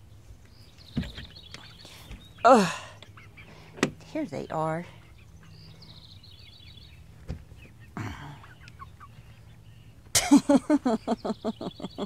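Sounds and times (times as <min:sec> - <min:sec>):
hens clucking: 0:00.8 - 0:12.0.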